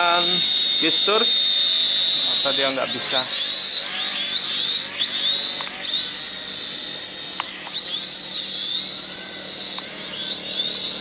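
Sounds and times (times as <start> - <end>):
toy drone motors whining: 0.0 - 11.0.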